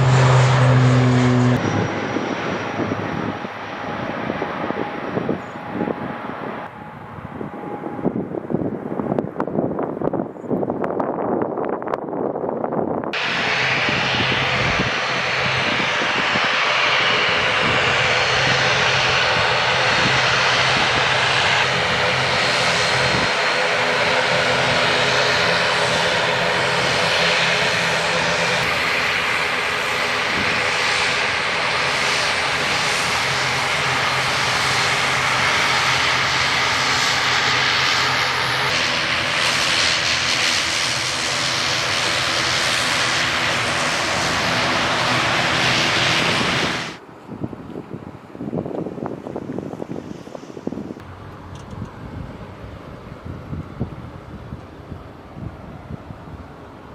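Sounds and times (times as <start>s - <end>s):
airliner engines roaring: 0.0s - 56.9s.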